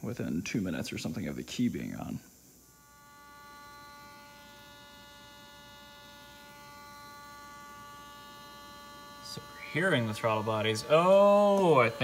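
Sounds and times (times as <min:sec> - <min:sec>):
throttle actuators humming: 0:00.0 - 0:12.0.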